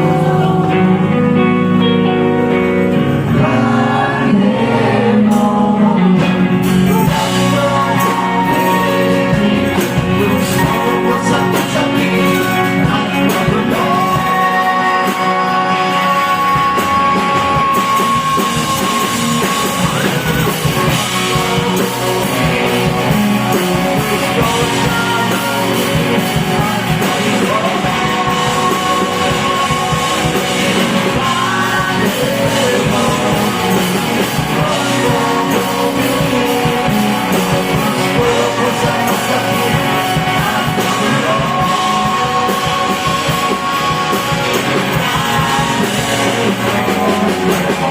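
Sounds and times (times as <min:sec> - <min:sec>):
person singing: 0:00.0 - 0:47.9
rock band playing live: 0:00.0 - 0:47.9.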